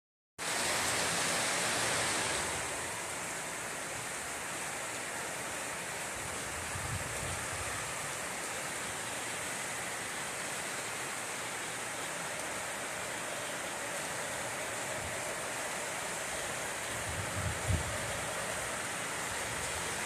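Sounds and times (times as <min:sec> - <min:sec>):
heavy rain hissing: 0:00.4 - 0:20.0.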